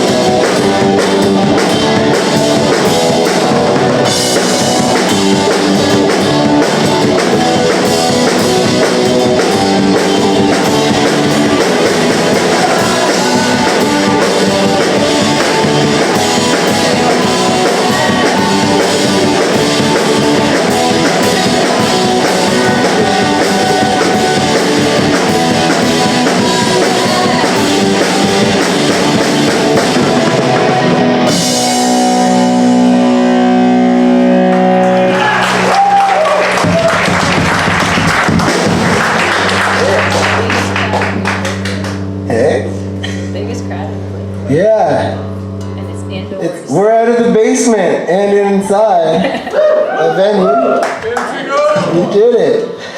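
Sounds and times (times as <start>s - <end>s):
held guitar chords ringing: 0.0s - 35.5s, 36.6s - 49.1s
punk rock band playing: 0.0s - 51.0s.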